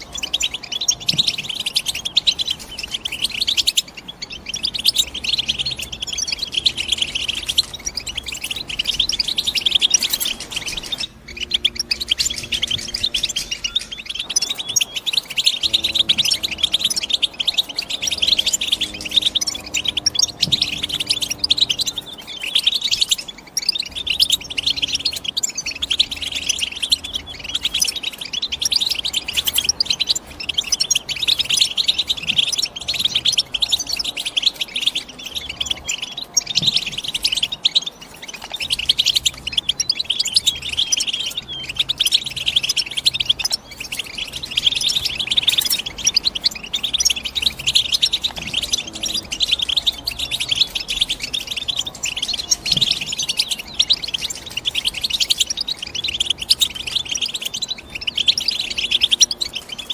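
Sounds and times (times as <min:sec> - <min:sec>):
goldfinch twittering: 0:00.0 - 0:59.9.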